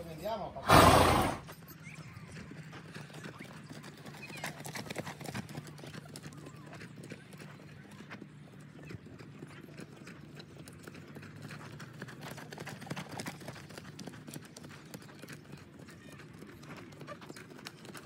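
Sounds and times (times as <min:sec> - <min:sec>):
horse hooves trotting on sand: 0:00.7 - 0:18.0.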